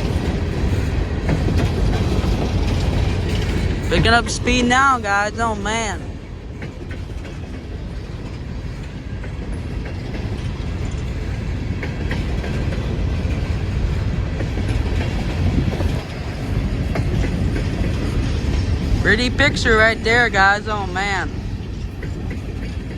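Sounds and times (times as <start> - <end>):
train wheels clicking over rail joints: 0.0 - 22.9.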